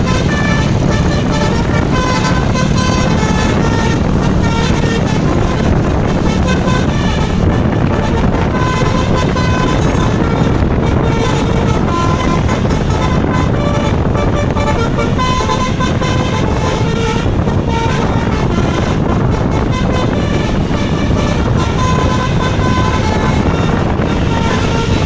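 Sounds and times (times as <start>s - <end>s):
bus horn melody: 0.0s - 25.0s
low rumble: 0.0s - 25.0s.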